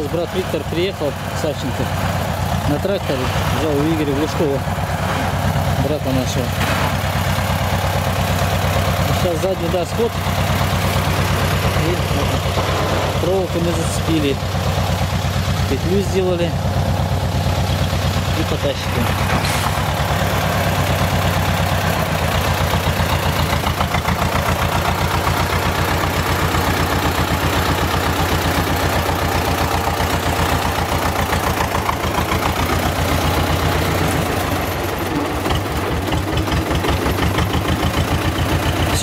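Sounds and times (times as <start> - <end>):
tractor engine chugging: 0.0 - 39.0.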